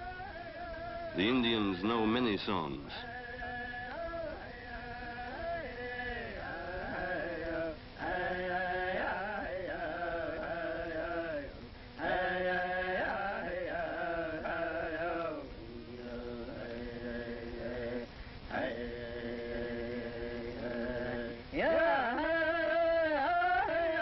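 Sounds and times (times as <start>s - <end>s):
voices chanting in long phrases: 0.0s - 24.0s.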